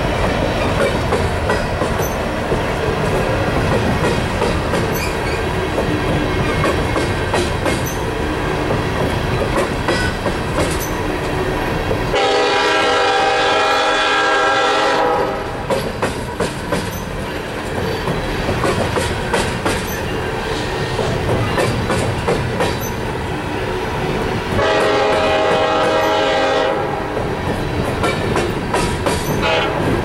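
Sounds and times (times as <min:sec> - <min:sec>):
train wheels clicking over rail joints: 0:00.0 - 0:12.4, 0:15.2 - 0:23.3, 0:24.1 - 0:30.0.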